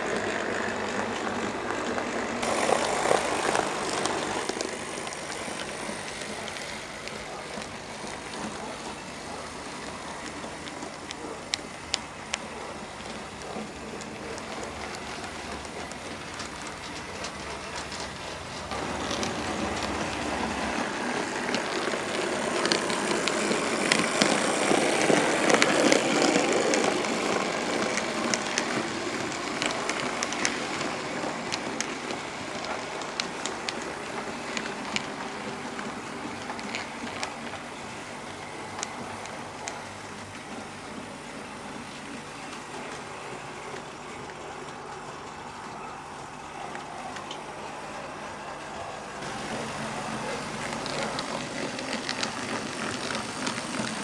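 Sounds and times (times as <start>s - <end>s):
clicks at rail joints: 0.0s - 54.0s
model train wheels and motors rattling: 0.0s - 54.0s.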